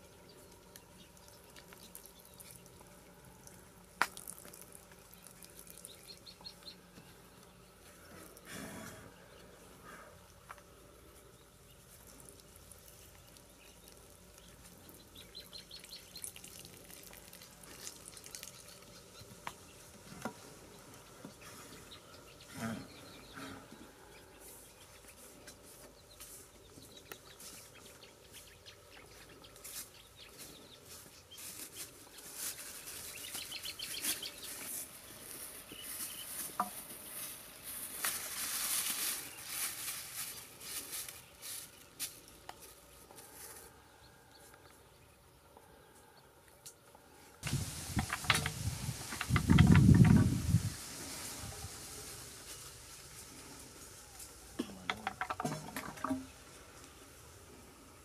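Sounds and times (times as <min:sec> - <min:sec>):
bamboo tube on leaf litter: 0:00.0 - 0:28.4, 0:29.5 - 0:43.8, 0:47.4 - 0:58.0.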